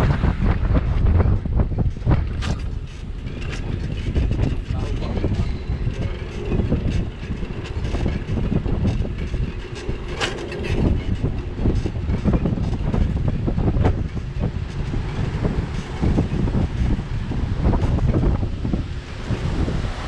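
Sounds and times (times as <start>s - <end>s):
bicycle rattles and knocks: 0.0s - 20.0s
wind buffeting microphone: 0.0s - 20.0s.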